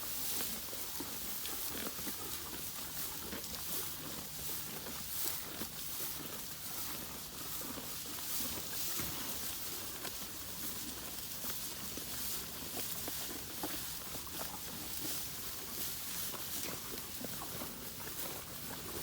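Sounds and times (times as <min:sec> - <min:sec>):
cattle chewing hay: 0:00.0 - 0:19.0.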